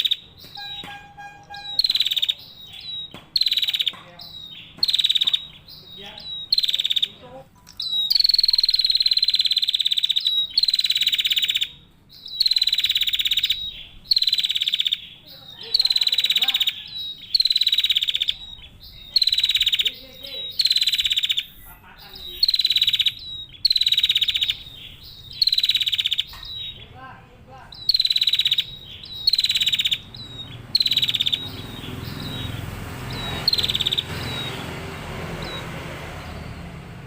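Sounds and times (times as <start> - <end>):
bird buzzy rattling trills: 0.0 - 37.0.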